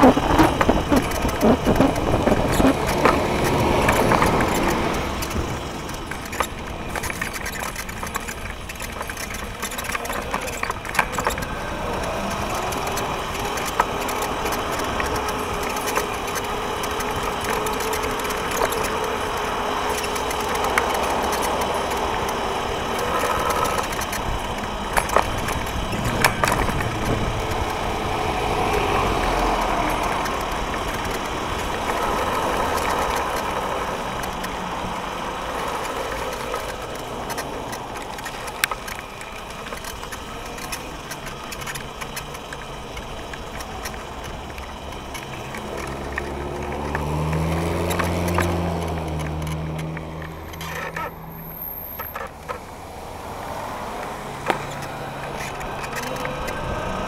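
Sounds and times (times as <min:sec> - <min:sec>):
sharp knocks over bumps: 0:00.0 - 0:51.3
scooter wheels rumbling on asphalt: 0:00.0 - 0:57.0
thin steady whine: 0:00.0 - 0:57.0.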